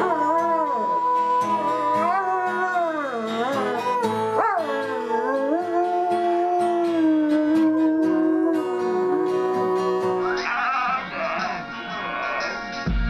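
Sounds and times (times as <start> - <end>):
dog howling: 0.0 - 11.7
music: 0.0 - 13.0.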